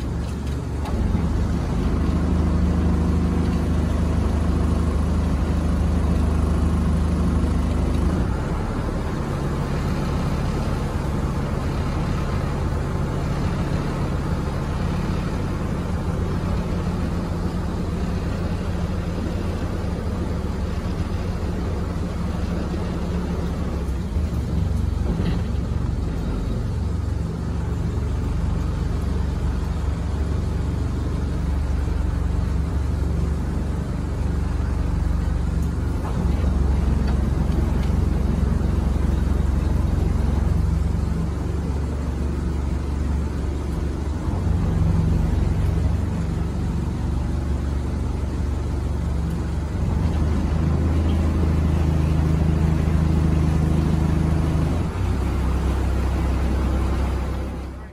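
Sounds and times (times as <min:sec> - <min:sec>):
boat engine droning: 0:00.0 - 0:57.9.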